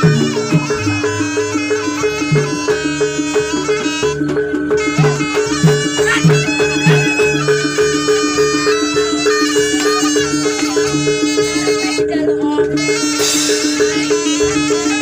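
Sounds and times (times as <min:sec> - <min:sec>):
low drum or gong beats: 0:00.0 - 0:15.0
reedy wind melody: 0:00.0 - 0:15.0
tuned percussion pattern: 0:00.0 - 0:15.0.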